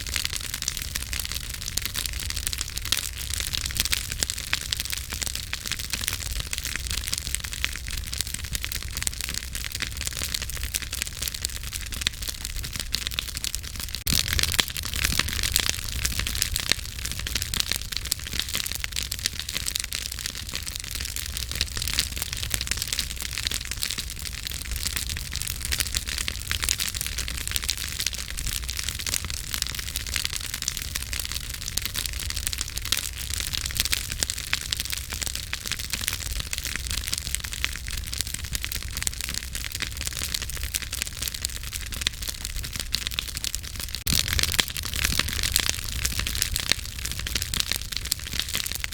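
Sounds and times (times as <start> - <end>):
campfire crackling and popping: 0.0 - 48.9
low rumble of flames: 0.0 - 48.9.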